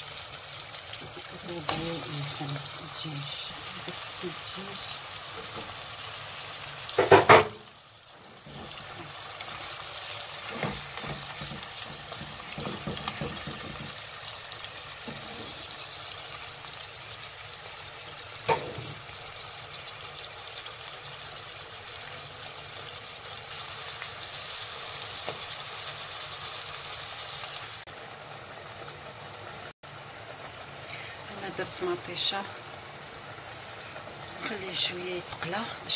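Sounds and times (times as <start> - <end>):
food sizzling in oil: 0.0 - 35.9.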